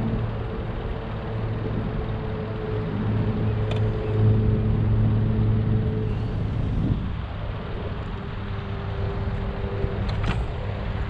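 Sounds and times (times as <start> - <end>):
outboard boat engine running: 0.0 - 11.0.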